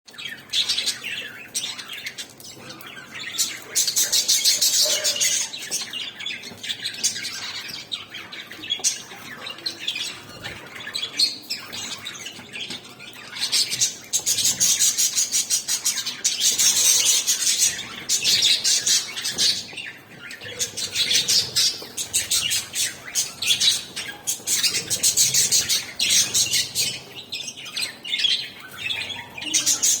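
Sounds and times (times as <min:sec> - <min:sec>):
budgerigars chirping: 0:00.2 - 0:30.0.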